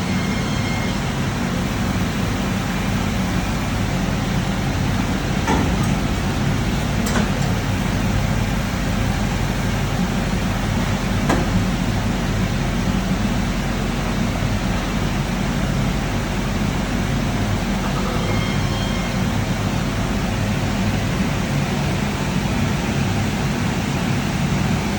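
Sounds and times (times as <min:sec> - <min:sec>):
machine humming and hissing: 0:00.0 - 0:24.9.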